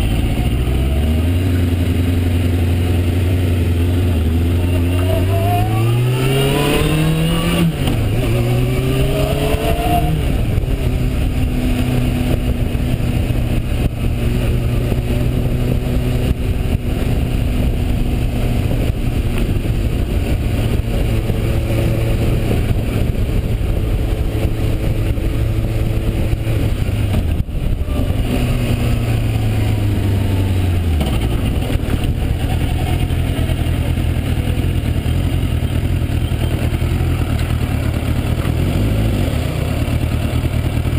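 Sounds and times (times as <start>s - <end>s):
wind noise: 0.0s - 35.0s
motorcycle engine accelerating: 0.0s - 40.9s.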